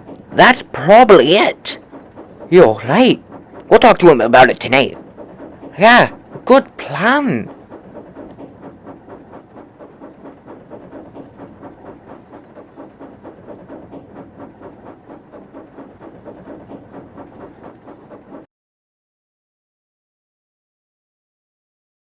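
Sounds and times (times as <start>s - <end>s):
steam train rhythmic chugging: 0.0s - 18.5s.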